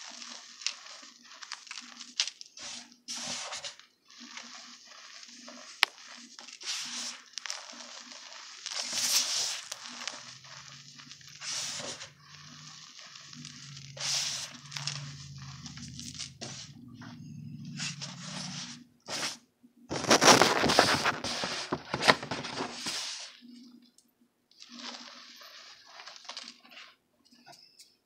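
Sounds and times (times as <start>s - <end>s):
hands crunching powder: 0.0s - 19.3s, 19.9s - 23.3s.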